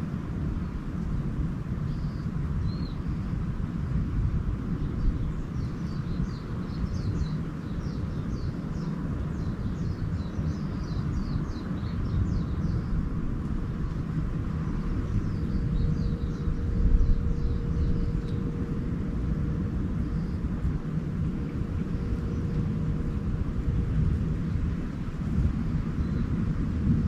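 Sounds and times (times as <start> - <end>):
small birds twittering: 1.8 - 3.2, 4.7 - 25.2, 25.8 - 26.6
low rumble: 3.5 - 27.0.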